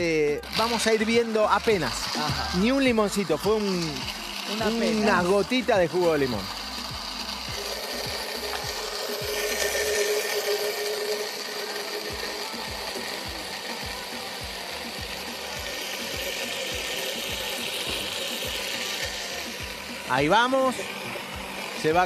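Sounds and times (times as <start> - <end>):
blender motor running: 0.0 - 22.0.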